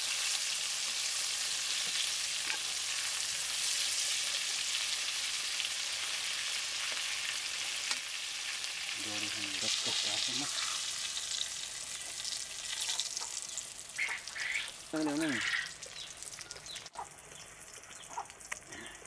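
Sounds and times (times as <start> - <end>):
oil sizzling in a wok: 0.0 - 19.0.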